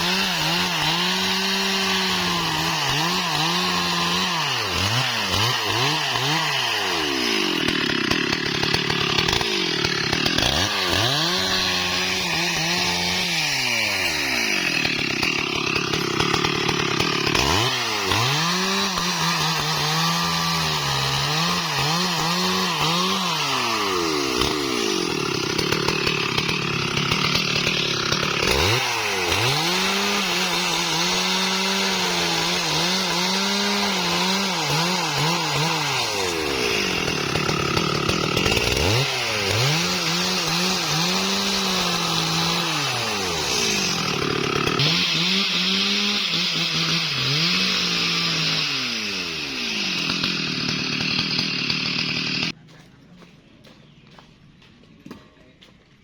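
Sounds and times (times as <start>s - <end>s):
chainsaw running at high revs: 0.0s - 52.6s.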